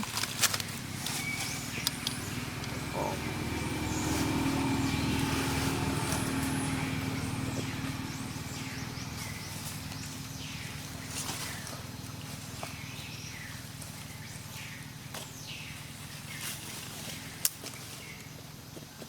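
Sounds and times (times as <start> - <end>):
vehicle engine running: 0.0 - 19.0
downward-sweeping chirping calls: 0.8 - 18.5.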